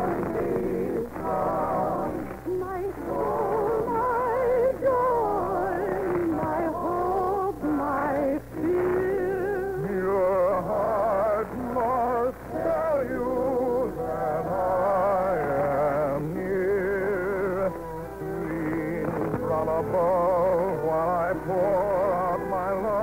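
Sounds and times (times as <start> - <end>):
singer with vibrato: 0.0 - 23.0.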